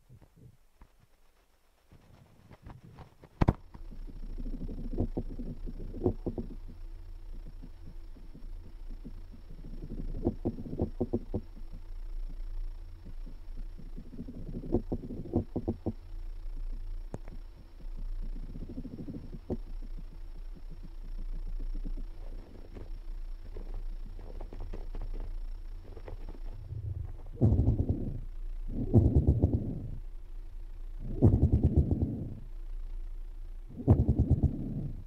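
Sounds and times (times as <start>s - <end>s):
steady low hum: 0.0s - 35.0s
rapid low thumping and buzzing: 0.1s - 35.0s.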